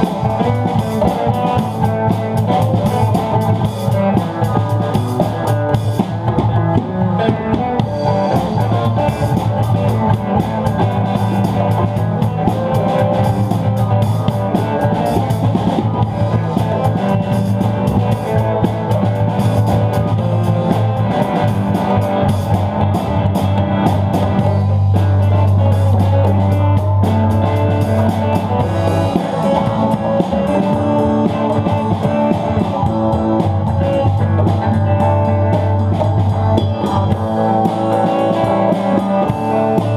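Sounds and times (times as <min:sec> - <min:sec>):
rock music with guitar and drums: 0:00.0 - 0:39.9.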